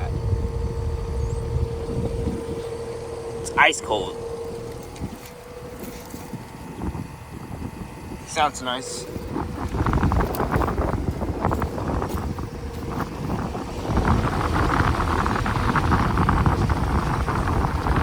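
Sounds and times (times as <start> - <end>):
air conditioner condenser humming: 0.0 - 18.0.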